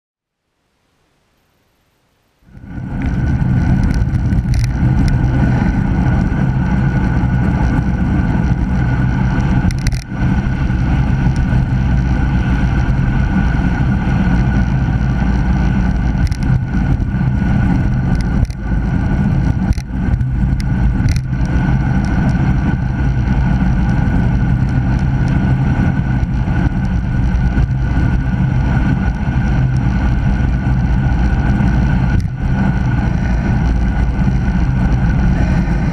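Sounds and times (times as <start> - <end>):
wind noise: 2.4 - 35.9.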